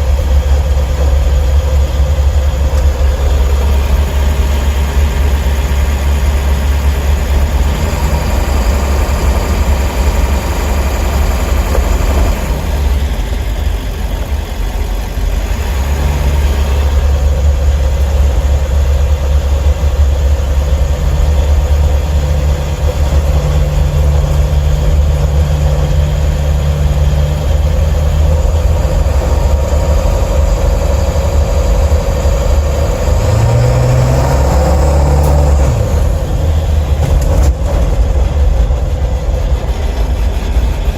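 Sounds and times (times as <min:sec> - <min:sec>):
diesel engine rumbling: 0:00.0 - 0:40.9.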